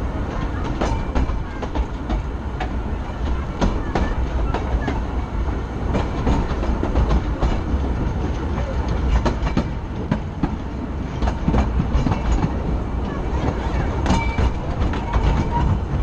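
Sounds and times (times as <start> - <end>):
train coach rumbling on track: 0.0 - 16.0
wheels clicking over rail joints: 0.2 - 16.0.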